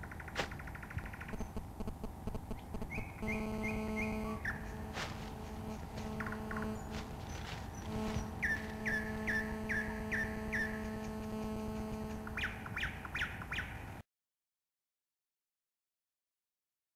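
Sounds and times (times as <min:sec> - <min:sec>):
bird calling falling notes: 0:00.0 - 0:13.9
steady low hum: 0:00.0 - 0:13.9.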